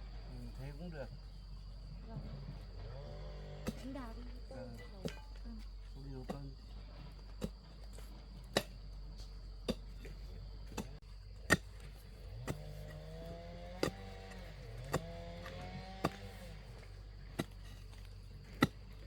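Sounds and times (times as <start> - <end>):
steady motor drone: 0.0 - 7.5, 9.6 - 19.0
hoe digging into soil: 2.2 - 19.0.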